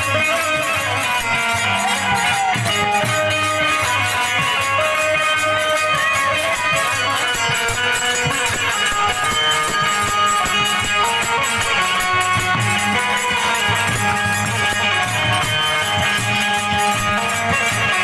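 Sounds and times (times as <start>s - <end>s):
percussion beat: 0.0s - 18.0s
plucked string melody: 0.0s - 18.0s.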